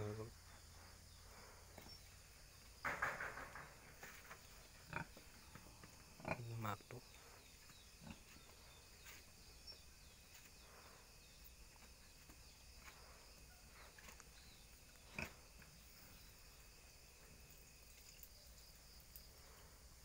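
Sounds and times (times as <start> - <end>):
faint insect chirring: 0.0 - 20.0.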